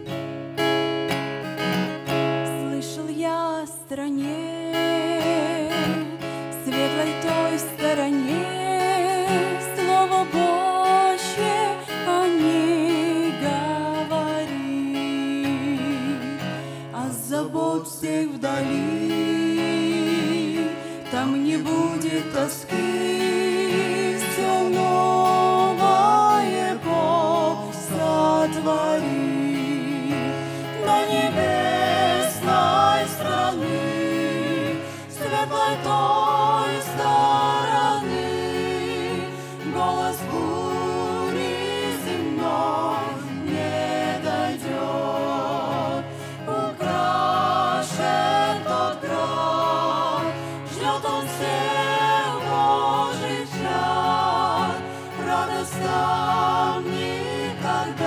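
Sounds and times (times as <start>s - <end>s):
acoustic guitar: 0.0s - 58.0s
group singing a hymn in harmony: 4.7s - 58.0s.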